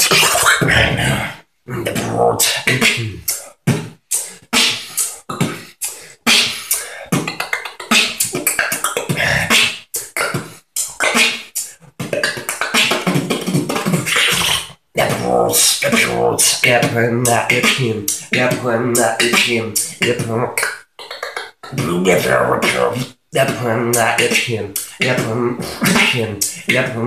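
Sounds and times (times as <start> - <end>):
beatboxing: 0.0 - 27.0.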